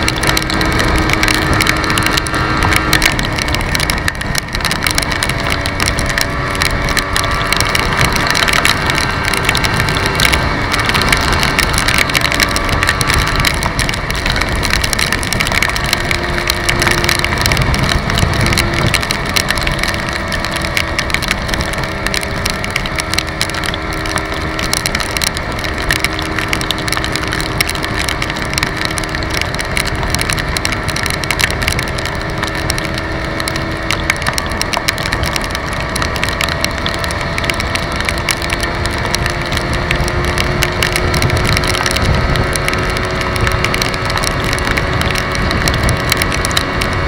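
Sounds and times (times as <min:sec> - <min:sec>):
motorcycle engine hum: 0:00.0 - 0:47.0
wind rushing on microphone: 0:00.0 - 0:47.0.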